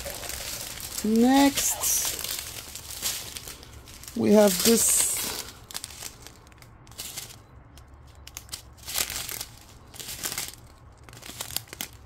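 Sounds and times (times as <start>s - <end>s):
plastic bags crinkling: 0.0s - 7.4s, 8.1s - 12.0s.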